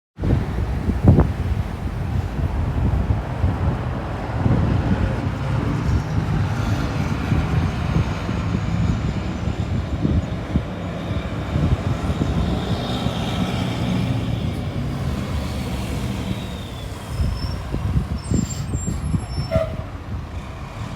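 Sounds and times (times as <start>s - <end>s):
fire engine rumbling: 0.2s - 20.9s.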